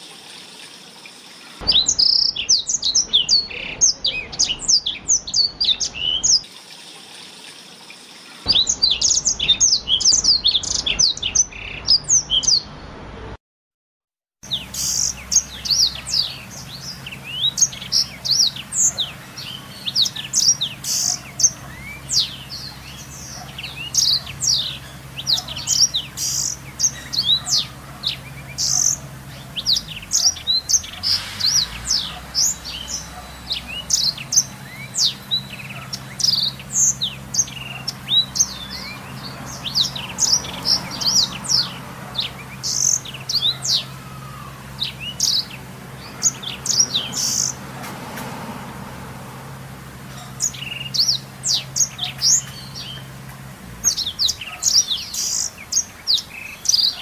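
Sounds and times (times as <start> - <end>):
canary singing: 0.0 - 12.9, 14.4 - 48.6, 49.5 - 57.0.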